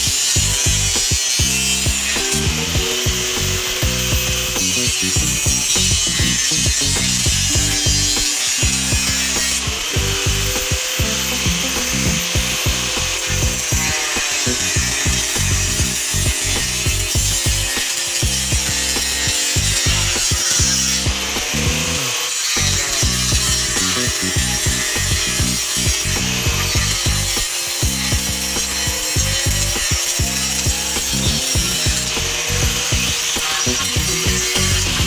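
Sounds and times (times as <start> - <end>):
angle grinder cutting plastic: 0.0 - 35.0.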